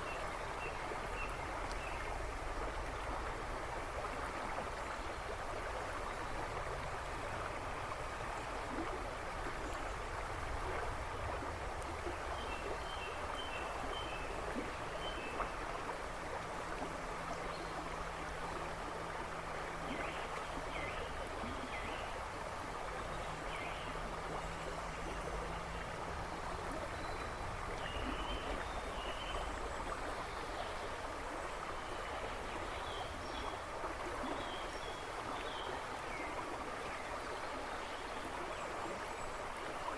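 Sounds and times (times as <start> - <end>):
river babbling and rushing: 0.0 - 39.9.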